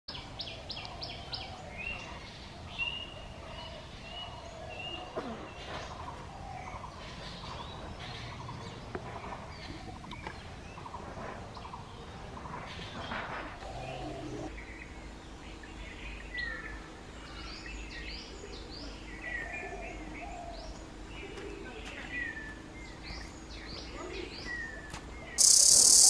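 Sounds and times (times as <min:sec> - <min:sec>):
birds chirping and trilling: 0:00.1 - 0:26.0
outdoor background noise: 0:00.1 - 0:26.0.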